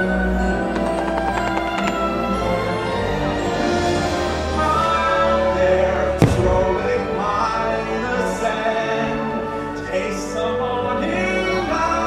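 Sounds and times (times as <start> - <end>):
orchestral music with singing: 0.0 - 12.0.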